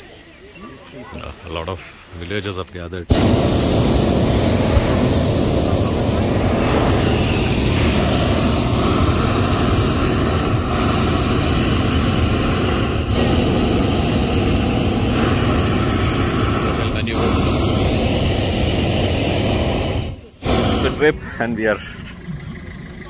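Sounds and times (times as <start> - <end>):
propane burner blast: 3.1 - 22.0.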